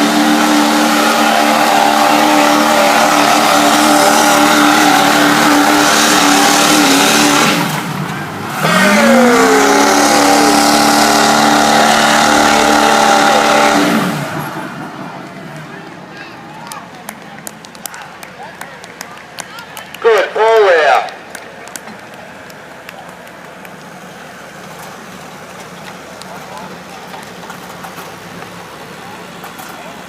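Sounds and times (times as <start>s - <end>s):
diesel truck engine at full throttle: 0.0s - 30.0s.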